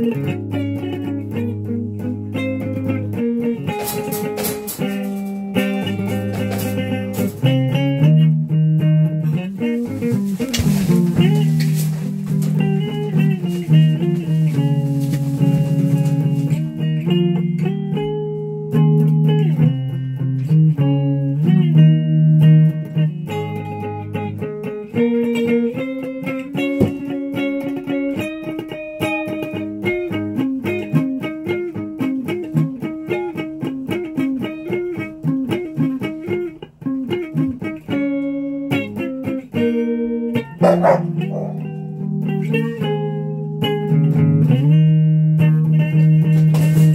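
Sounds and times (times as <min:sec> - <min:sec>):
electric guitar solo: 0:00.0 - 0:46.9.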